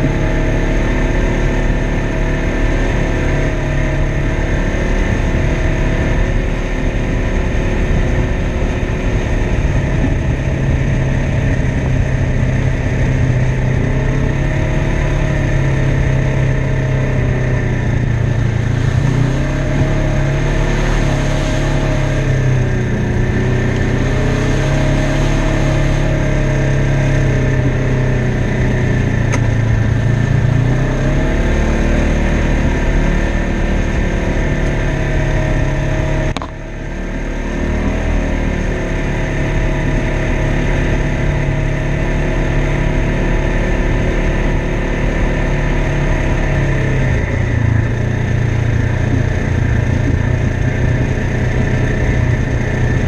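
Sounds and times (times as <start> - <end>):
off-road vehicle engine running: 0.0 - 53.0.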